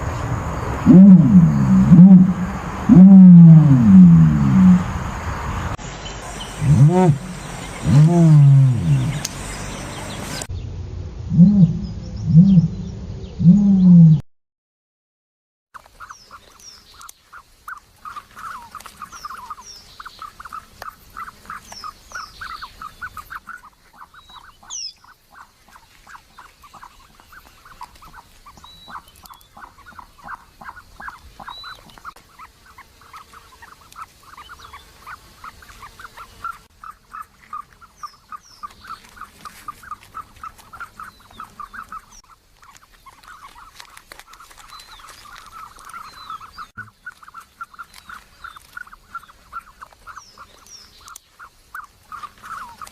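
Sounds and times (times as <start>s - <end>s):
ostrich calling: 0.6s - 5.2s, 5.9s - 10.5s, 17.0s - 52.9s
small birds chirping: 4.2s - 10.7s, 15.8s - 52.9s.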